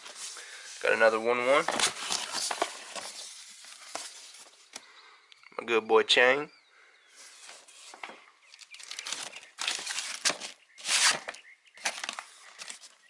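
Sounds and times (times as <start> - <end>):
packaging rustling and crinkling: 0.0 - 4.7, 7.2 - 13.0.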